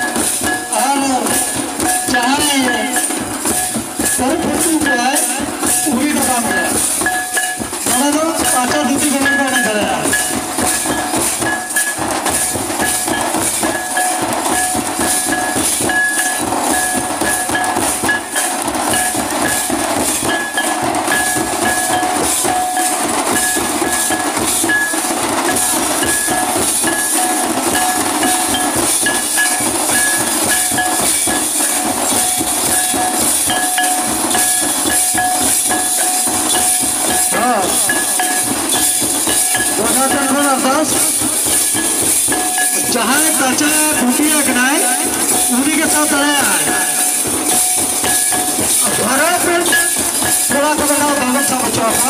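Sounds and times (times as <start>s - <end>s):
drums beaten in fast rhythm: 0.0s - 52.0s.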